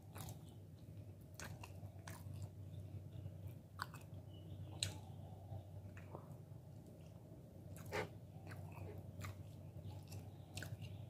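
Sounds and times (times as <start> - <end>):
close-up chewing: 0.0 - 11.0
low steady hum: 0.0 - 11.0.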